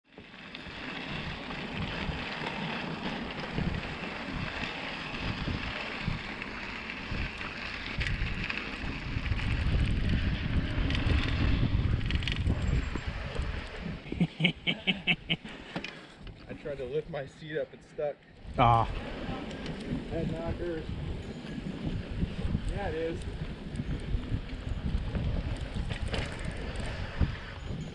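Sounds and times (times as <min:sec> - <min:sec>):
bike tyres rumbling: 0:00.1 - 0:17.4, 0:18.4 - 0:27.9
wind buffeting microphone: 0:00.6 - 0:15.4, 0:18.4 - 0:27.9.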